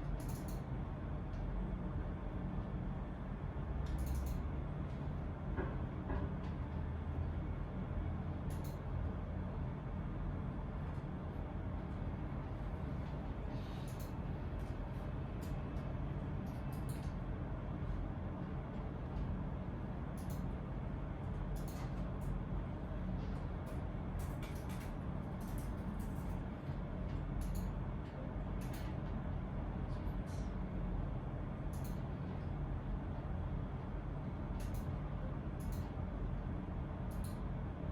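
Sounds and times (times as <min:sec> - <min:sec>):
low room rumble: 0:00.0 - 0:37.9.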